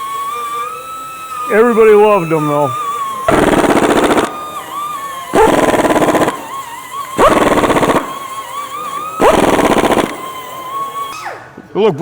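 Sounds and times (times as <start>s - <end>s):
pneumatic impact wrench hammering: 0.0s - 11.6s.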